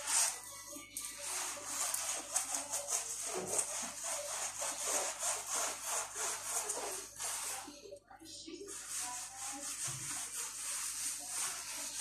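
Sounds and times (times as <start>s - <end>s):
scrubbing tiles: 0.0s - 7.8s, 8.7s - 12.0s.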